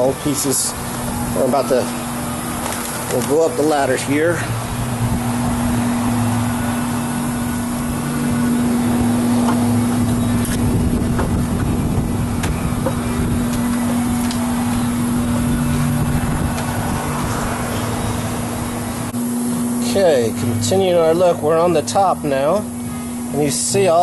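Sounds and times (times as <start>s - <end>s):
machine hum with low drone: 0.0s - 24.0s.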